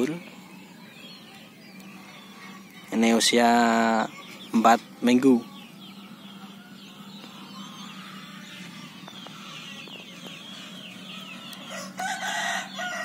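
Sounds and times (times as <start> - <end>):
chicks peeping and clucking: 0.0 - 13.0.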